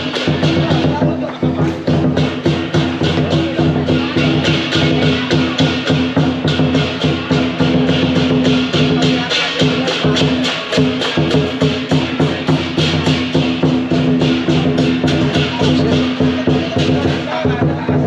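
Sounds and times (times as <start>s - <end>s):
music with fast percussive beat: 0.0s - 18.0s.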